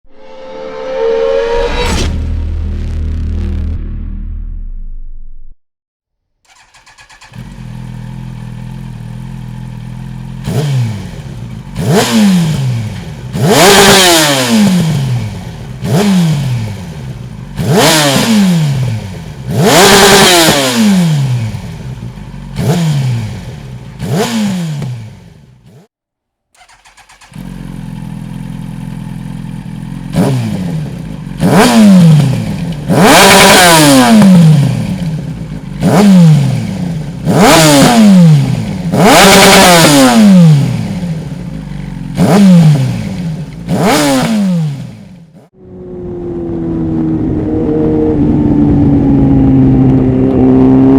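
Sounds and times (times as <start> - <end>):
motorcycle engine idling and revving: 6.5 - 26.0, 26.6 - 50.9.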